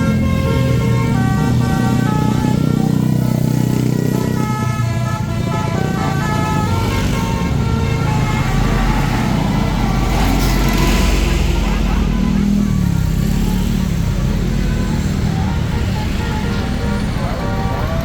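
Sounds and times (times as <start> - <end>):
bus engine running: 0.0 - 18.0
musical bus horn tune: 0.0 - 18.0.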